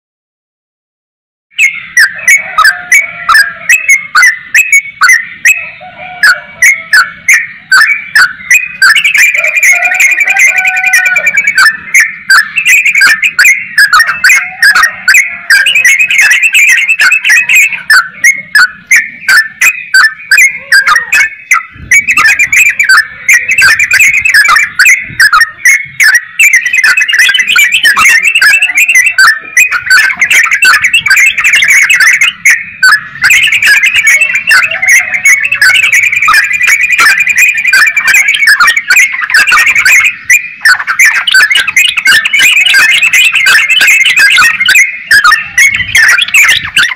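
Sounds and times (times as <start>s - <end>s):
bird singing chattering phrases: 6.6s - 46.9s.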